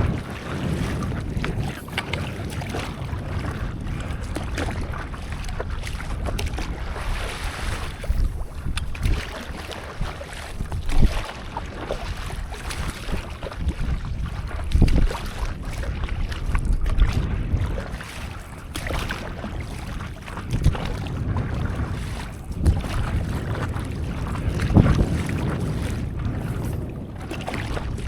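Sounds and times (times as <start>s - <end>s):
water splashing around paddleboard: 0.0s - 28.0s
wind buffeting microphone: 0.0s - 28.0s.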